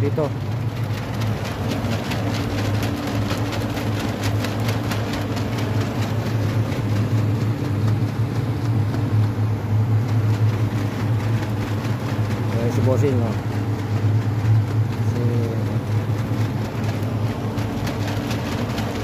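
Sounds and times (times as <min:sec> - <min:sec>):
air blower motor humming: 0:00.0 - 0:19.0
quick ticks and rattles: 0:00.0 - 0:19.0.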